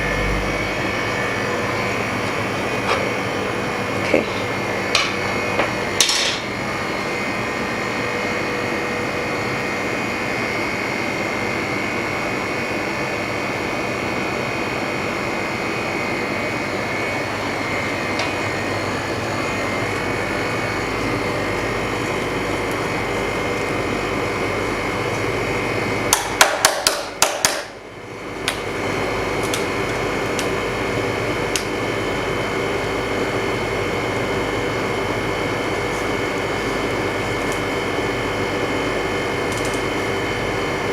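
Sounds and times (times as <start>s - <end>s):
freezer machine running: 0.0s - 40.9s.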